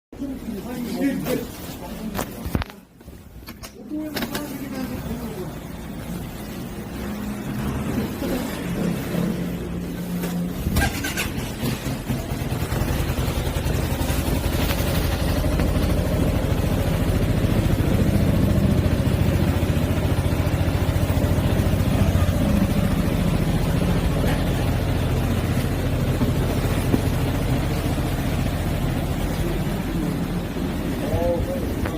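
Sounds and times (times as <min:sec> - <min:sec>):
scooter engine idling: 0:04.4 - 0:31.9.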